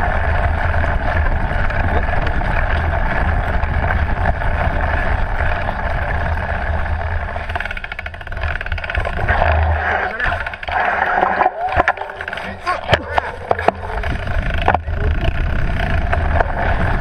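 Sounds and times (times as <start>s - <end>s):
wind buffeting microphone: 0.0s - 10.8s, 11.4s - 17.0s
bike tyres rolling on dirt: 0.0s - 17.0s
rapid ticking: 0.0s - 17.0s.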